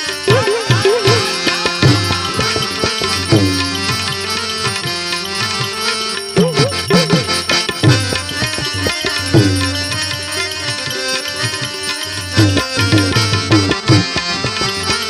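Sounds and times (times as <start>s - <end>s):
hand drum rhythm: 0.0s - 15.0s
sustained melody instruments: 0.0s - 15.0s.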